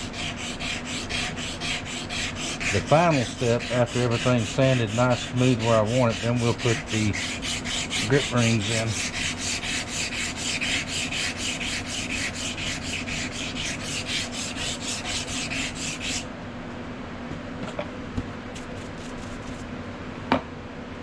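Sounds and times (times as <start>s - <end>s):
sandpaper rubbing on wood: 0.0s - 16.2s, 18.6s - 19.6s.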